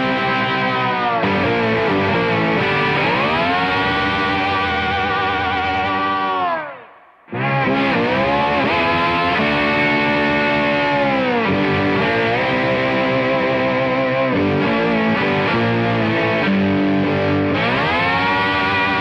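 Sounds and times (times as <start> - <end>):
blues-rock band music: 0.0 - 6.2, 7.3 - 19.0
distorted electric guitar: 0.0 - 19.0.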